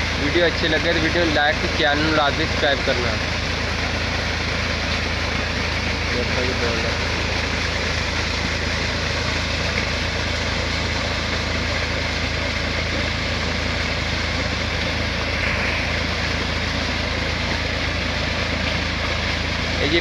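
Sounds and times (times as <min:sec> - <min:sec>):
rush of pumped water: 0:00.0 - 0:20.0
tractor diesel engine running: 0:00.0 - 0:20.0.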